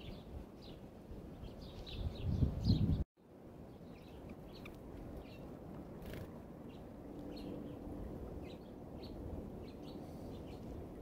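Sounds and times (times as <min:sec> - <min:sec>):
small birds chirping: 0:00.0 - 0:03.0, 0:03.6 - 0:10.9.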